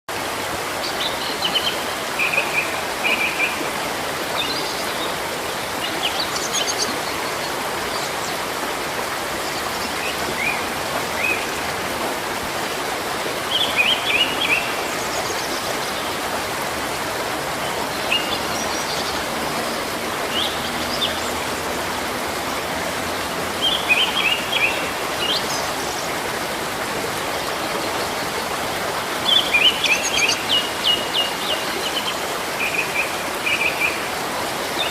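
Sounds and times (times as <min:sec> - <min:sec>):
running water: 0:00.1 - 0:34.9.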